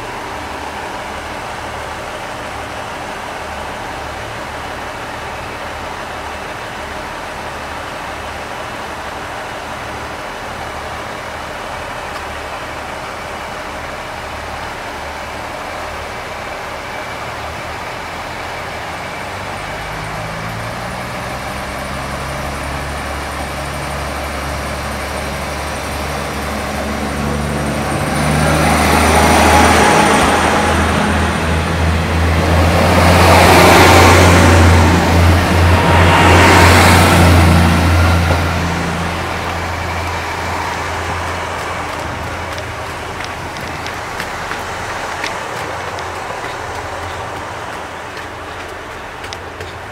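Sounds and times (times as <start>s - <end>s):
low engine hum: 0.0s - 49.9s
tyres hissing on wet road: 0.0s - 49.9s.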